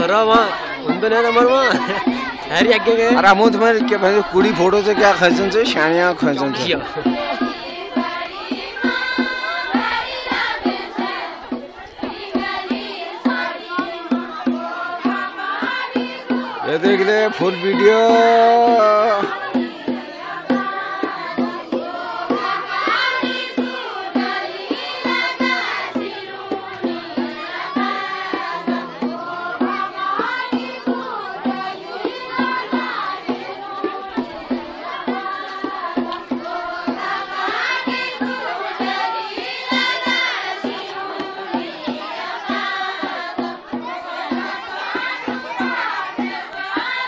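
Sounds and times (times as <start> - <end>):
group singing folk song in chorus: 0.0 - 47.0
steady beat: 0.0 - 47.0.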